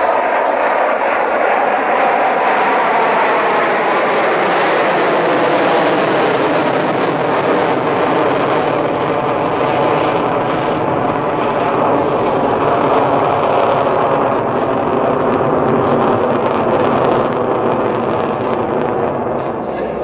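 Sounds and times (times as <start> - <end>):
fighter jet noise: 0.0 - 20.0.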